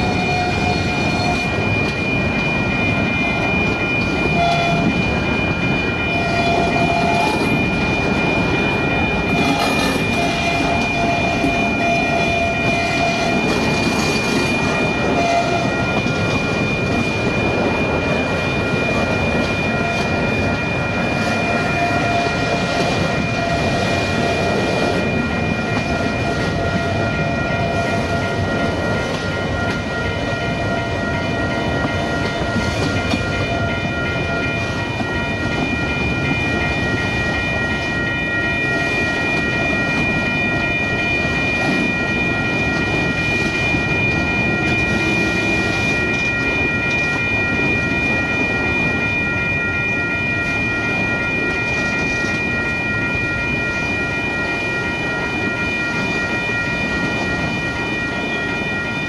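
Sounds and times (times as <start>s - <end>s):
train wheels clattering on rail: 0.0s - 49.0s
high ringing tones: 0.0s - 59.0s.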